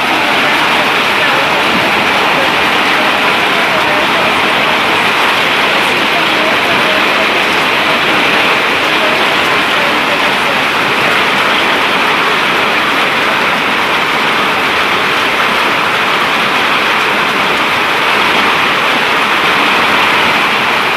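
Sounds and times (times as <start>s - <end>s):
heavy hail rain rushing: 0.0s - 20.9s.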